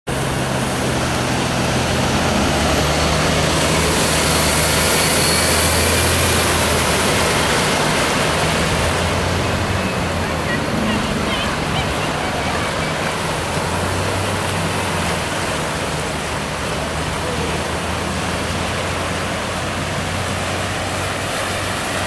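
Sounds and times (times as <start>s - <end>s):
truck engine humming: 0.1s - 22.0s
water splashing from wheels: 0.1s - 22.0s.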